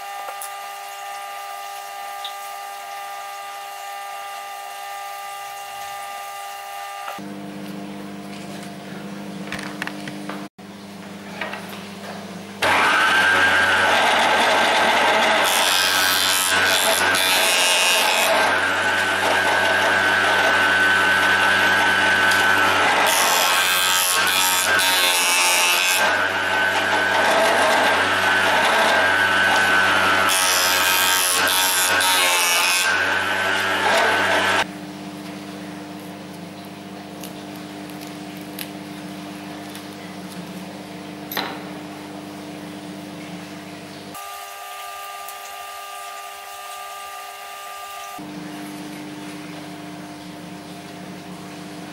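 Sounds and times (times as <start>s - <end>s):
thicknesser motor humming: 0.0s - 51.9s.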